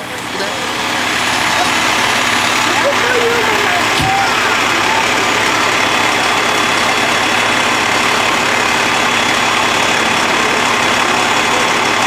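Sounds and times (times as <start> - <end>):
fire truck engine idling: 0.0 - 12.0.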